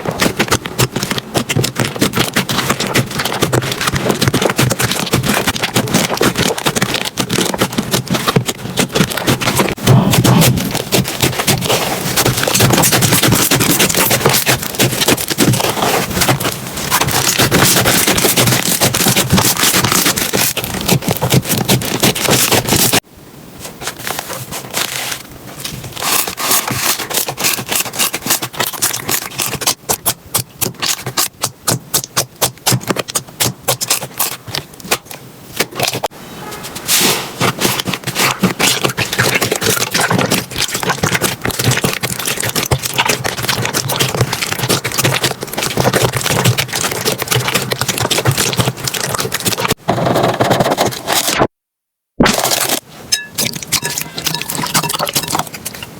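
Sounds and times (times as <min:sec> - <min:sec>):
slime crackling and popping: 0:00.0 - 0:23.0, 0:25.6 - 0:36.0, 0:37.4 - 0:49.8.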